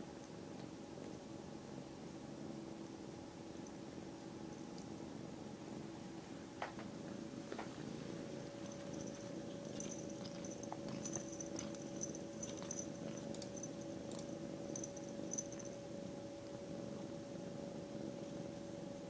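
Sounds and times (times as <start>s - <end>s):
kitten purring: 0.3s - 19.0s.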